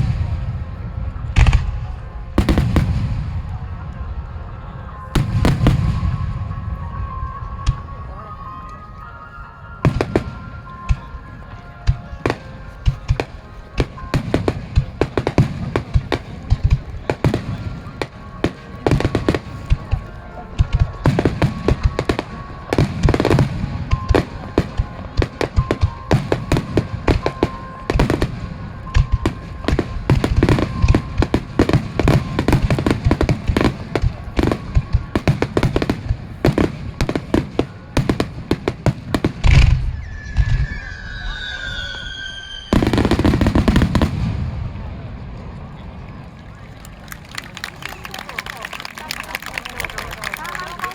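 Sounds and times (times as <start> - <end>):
fireworks bursting: 0.0 - 8.4, 9.8 - 45.7.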